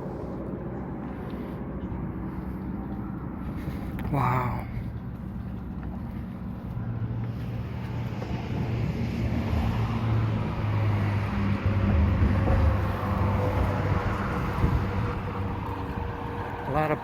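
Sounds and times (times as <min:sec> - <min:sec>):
highway traffic passing: 0:00.0 - 0:17.0.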